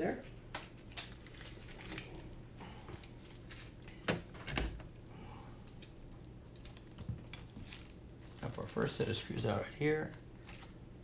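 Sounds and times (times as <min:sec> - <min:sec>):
plastic bag rustling: 0:00.7 - 0:05.0, 0:05.7 - 0:10.8.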